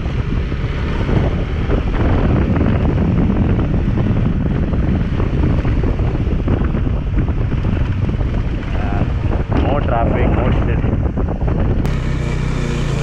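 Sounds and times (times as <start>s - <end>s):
motorcycle engine running: 0.0s - 9.5s, 11.4s - 13.0s
wind buffeting microphone: 0.0s - 13.0s.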